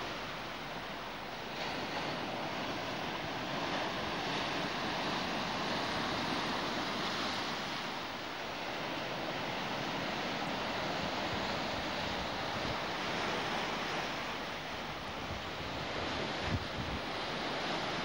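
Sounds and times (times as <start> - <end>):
sea surf breaking over rocks: 0.0 - 18.0.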